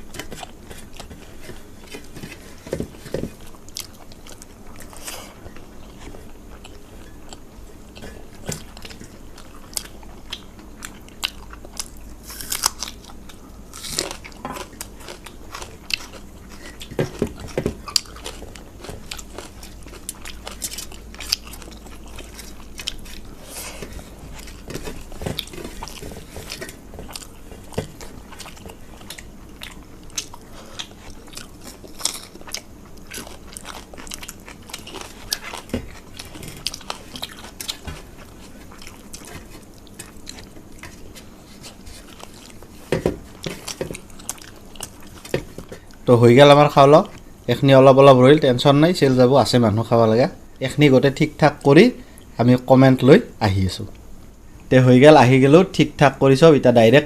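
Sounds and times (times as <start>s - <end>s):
crunchy chewing: 0.0s - 47.4s.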